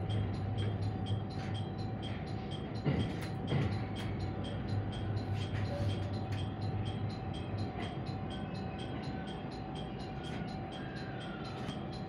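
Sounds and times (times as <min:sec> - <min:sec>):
faint regular ticking: 0:00.0 - 0:12.0
train cab running hum: 0:00.0 - 0:12.0.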